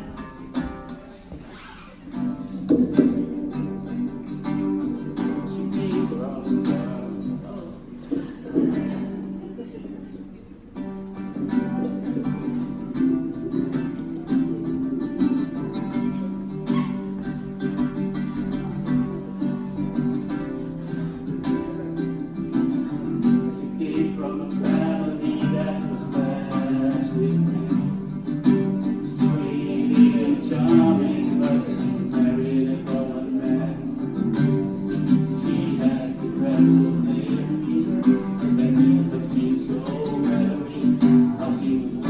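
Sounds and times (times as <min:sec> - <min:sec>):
acoustic guitar strumming: 0:00.0 - 0:42.0
man singing: 0:02.1 - 0:09.6, 0:11.2 - 0:16.3, 0:18.3 - 0:42.0.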